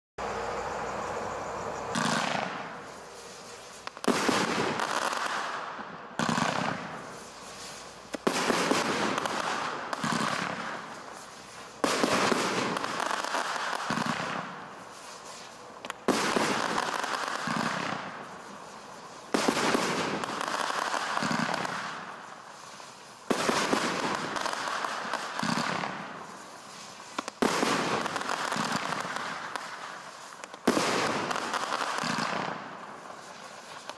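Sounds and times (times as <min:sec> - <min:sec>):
firework barrage volleys: 0:00.2 - 0:33.9.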